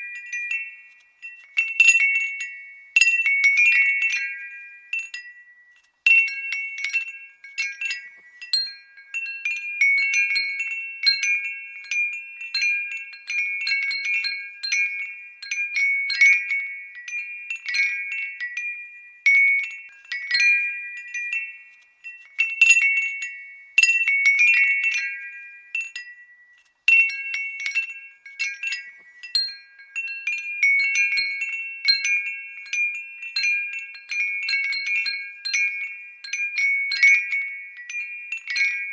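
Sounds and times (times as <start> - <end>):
glass windbell tinkling: 0.0 - 38.9.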